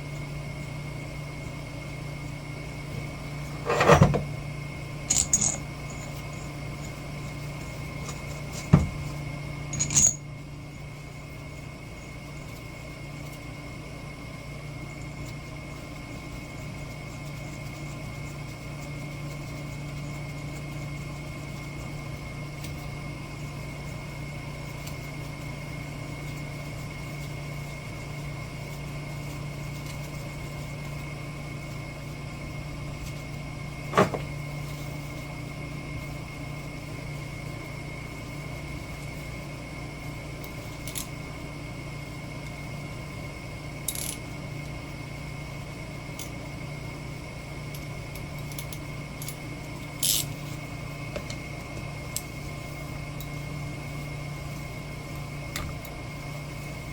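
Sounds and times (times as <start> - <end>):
mechanical hum: 0.0 - 56.9.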